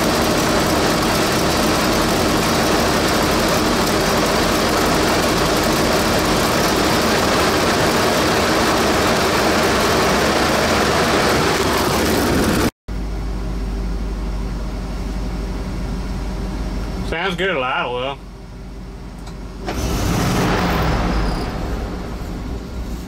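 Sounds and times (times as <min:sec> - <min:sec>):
engine idling low hum: 0:00.0 - 0:23.0
truck engine running: 0:00.0 - 0:23.0.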